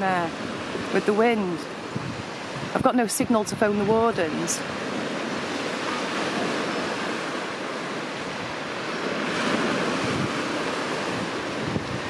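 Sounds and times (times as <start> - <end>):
sea waves surging on shore: 0.0 - 12.0
wind blowing across microphone: 0.0 - 12.0.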